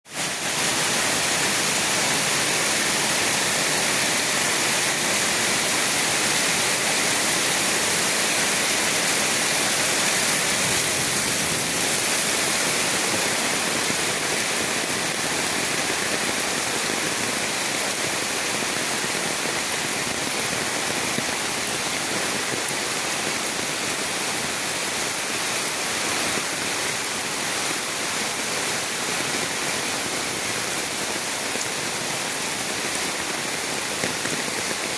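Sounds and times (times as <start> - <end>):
heavy rain pouring: 0.1 - 34.9.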